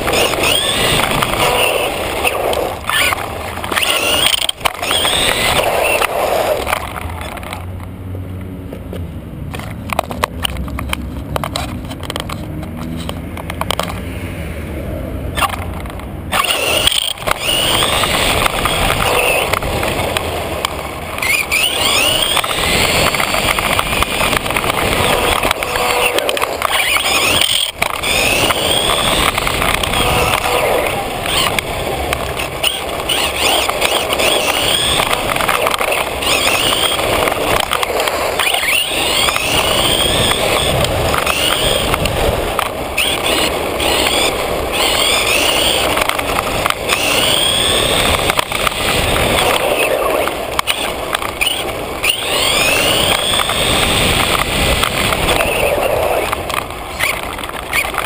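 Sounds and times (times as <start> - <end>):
electric motor and gears whining: 0.0 - 58.0.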